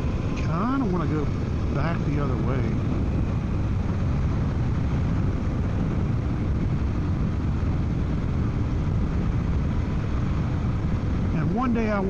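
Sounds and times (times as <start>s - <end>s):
motorcycle engine running: 0.0s - 11.9s
wind rushing over helmet: 0.0s - 12.0s.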